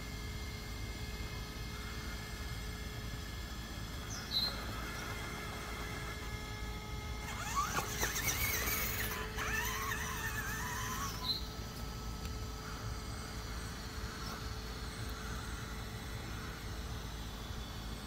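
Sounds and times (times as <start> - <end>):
electric motor whining: 1.2 - 18.0.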